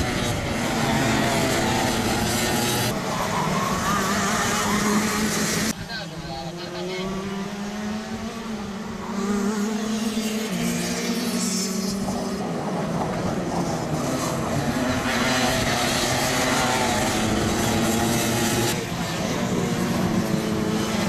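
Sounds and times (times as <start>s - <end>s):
racing kart engines at high revs: 0.0s - 21.0s.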